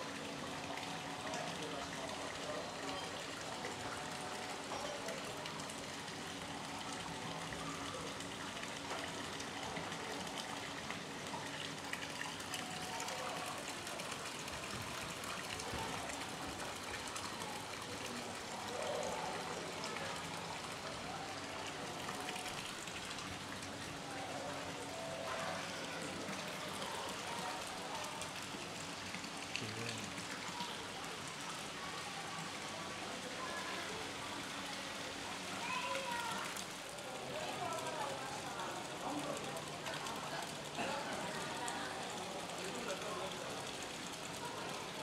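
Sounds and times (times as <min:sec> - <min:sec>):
faint voices: 0:00.0 - 0:45.0
water splashing and trickling: 0:00.0 - 0:45.0.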